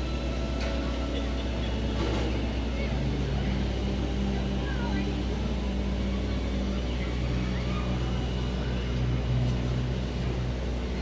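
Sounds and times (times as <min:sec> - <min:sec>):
train running hum inside carriage: 0:00.0 - 0:11.0.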